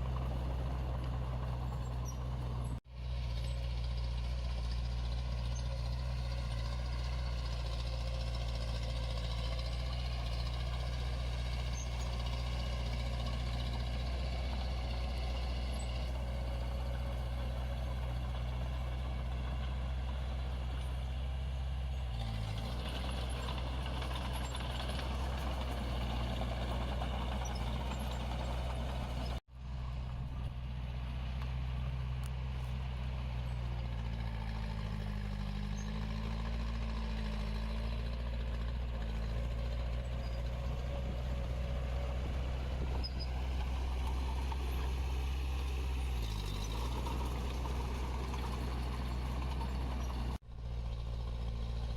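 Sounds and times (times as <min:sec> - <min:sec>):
heavy diesel machinery running: 0:00.0 - 0:51.9.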